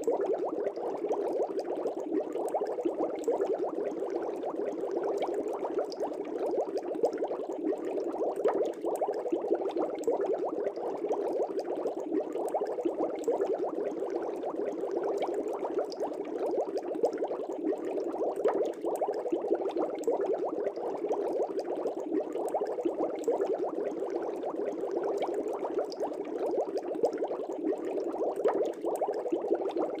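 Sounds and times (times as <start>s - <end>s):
aquarium air bubbles popping: 0.0s - 30.0s.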